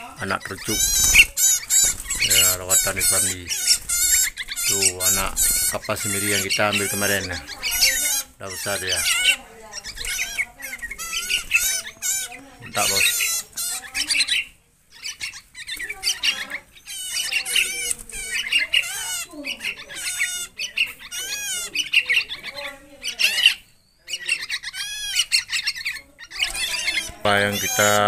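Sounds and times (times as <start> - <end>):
songbirds chirping and warbling: 0.0 - 28.0.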